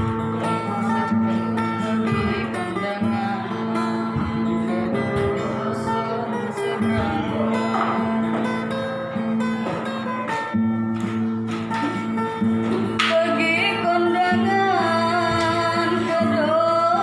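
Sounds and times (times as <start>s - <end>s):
acoustic guitar folk melody: 0.0s - 17.0s.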